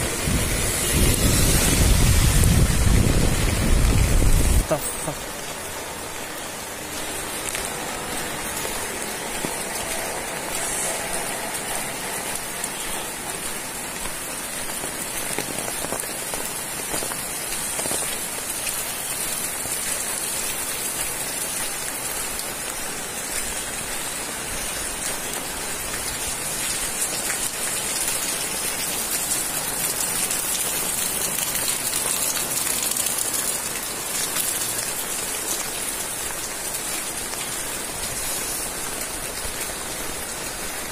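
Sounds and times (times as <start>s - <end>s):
heavy rain on paved street: 0.0s - 40.9s.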